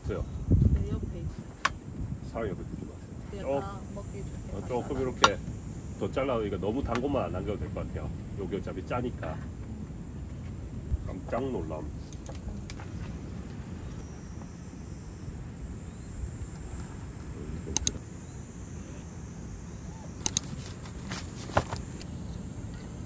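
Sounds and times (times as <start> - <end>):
low outdoor background rumble: 0.0 - 23.0.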